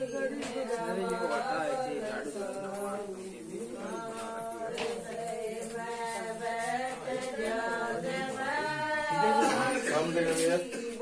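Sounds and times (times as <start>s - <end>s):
voices chanting: 0.0s - 11.0s.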